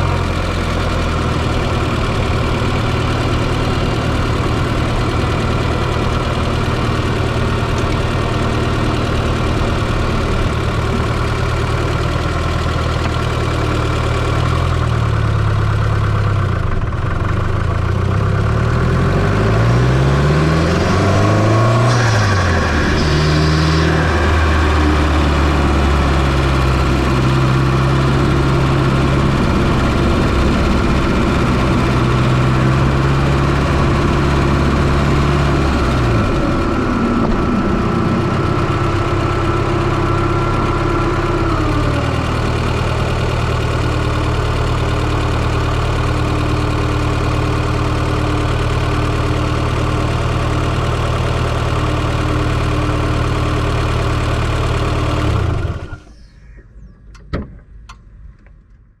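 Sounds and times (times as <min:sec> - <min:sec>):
car engine idling: 0:00.0 - 0:56.3.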